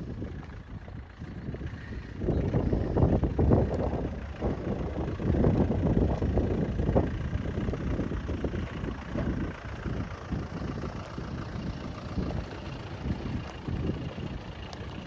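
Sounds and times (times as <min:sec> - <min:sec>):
off-road vehicle engine: 0:00.0 - 0:15.0.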